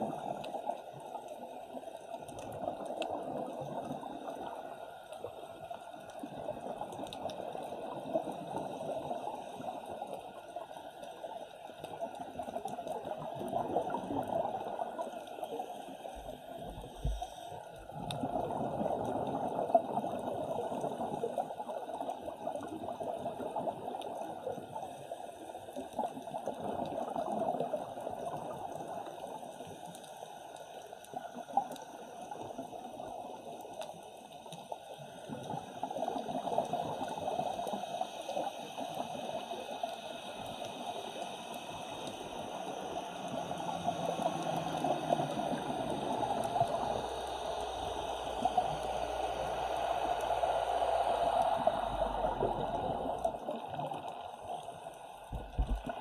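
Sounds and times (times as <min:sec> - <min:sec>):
underwater bubbling: 0:00.0 - 0:56.0.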